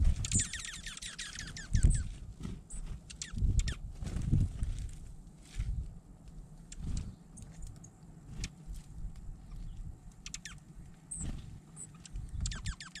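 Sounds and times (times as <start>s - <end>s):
songbirds chirping: 0.0s - 4.0s, 5.0s - 13.0s.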